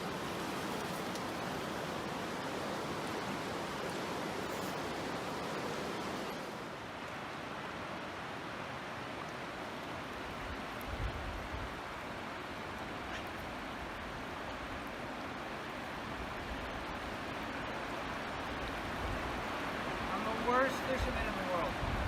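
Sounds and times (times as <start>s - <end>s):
river water flowing over rocks: 0.0s - 22.0s.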